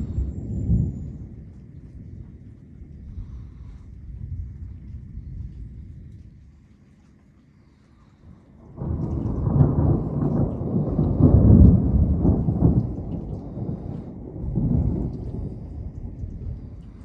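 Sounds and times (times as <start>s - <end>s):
thunder rumbling: 0.0s - 6.6s, 8.6s - 17.0s.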